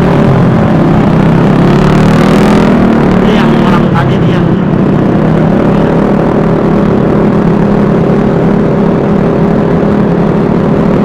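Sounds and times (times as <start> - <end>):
scooter engine humming: 0.0 - 11.0
wind and road noise: 0.0 - 11.0.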